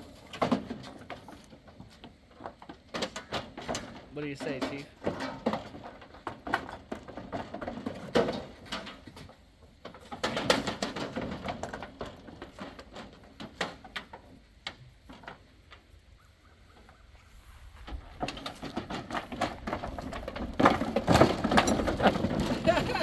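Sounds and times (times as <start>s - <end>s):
hooves knocking and scuffling: 0.0s - 23.0s.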